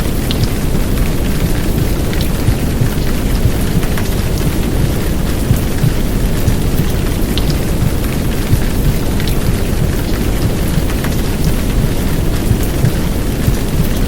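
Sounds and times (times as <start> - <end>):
heavy rain: 0.0 - 14.0
raindrop ticks: 0.0 - 14.0.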